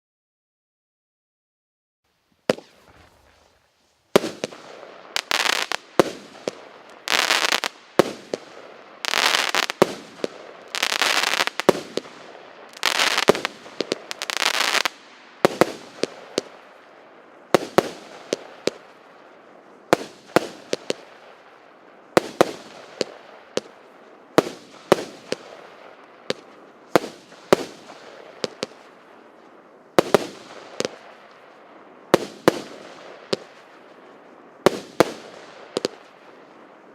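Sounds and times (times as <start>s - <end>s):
fireworks cracks and bangs: 2.4s - 36.9s
fireworks rushing noise: 2.4s - 36.9s.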